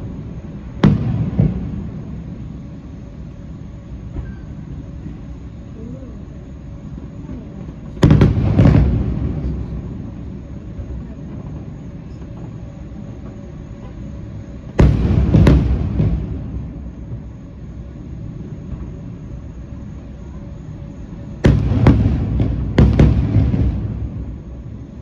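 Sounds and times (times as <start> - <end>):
fireworks booming: 0.0 - 5.7, 6.8 - 25.0.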